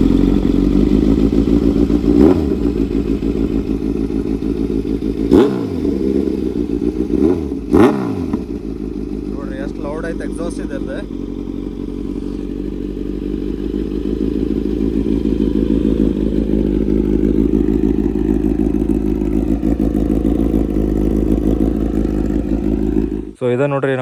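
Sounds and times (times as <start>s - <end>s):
motorcycle engine idling: 0.0s - 23.4s.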